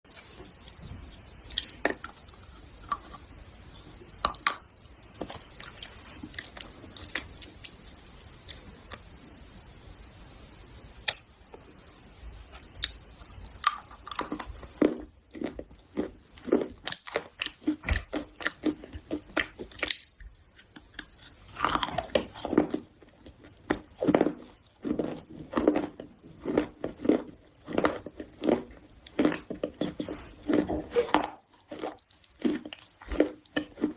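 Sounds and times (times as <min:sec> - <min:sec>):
chewing crunchy food: 0:00.2 - 0:09.0, 0:12.5 - 0:33.9.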